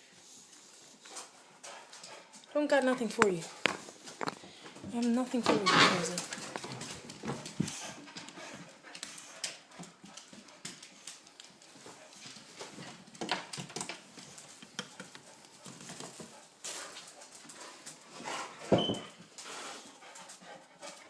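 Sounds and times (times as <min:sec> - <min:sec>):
dog paws clicking on floor: 0:00.1 - 0:21.0.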